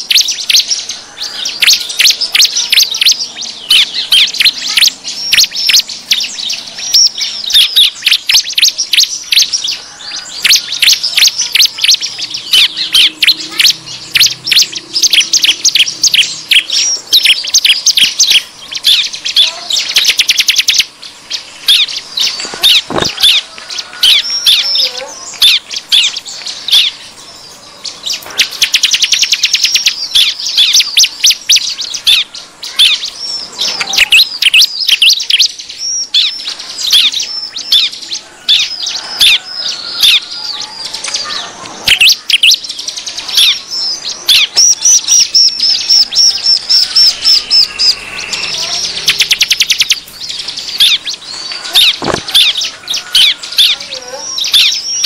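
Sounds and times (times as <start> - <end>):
prinias chirping and trilling: 0.0 - 55.0.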